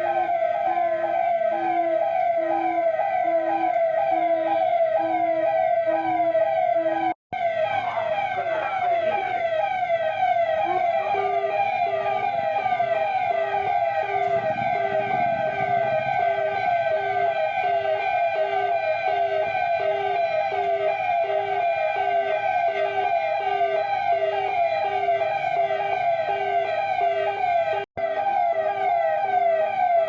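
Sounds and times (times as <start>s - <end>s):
electronic siren falling sweep: 0.0s - 30.0s.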